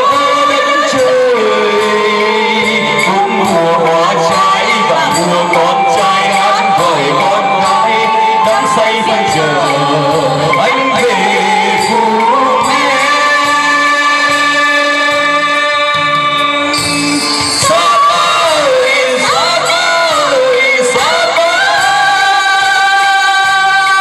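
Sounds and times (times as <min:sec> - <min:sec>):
pop song with singing: 0:00.0 - 0:24.0.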